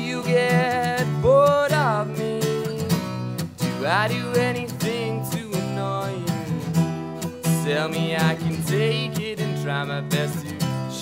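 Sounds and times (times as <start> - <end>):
acoustic guitar strumming: 0.0 - 11.0
man singing: 0.0 - 11.0.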